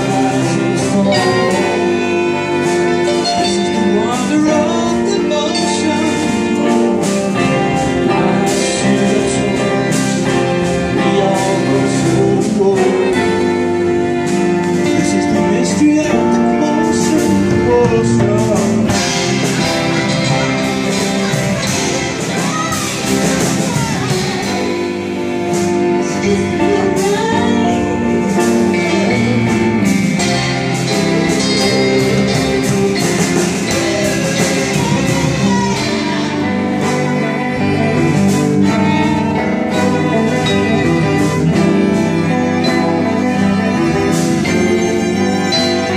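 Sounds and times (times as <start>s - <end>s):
drums: 0.0s - 45.9s
electric and acoustic guitars: 0.0s - 45.9s
violins and cello: 0.0s - 45.9s
woman singing lead: 0.0s - 45.9s.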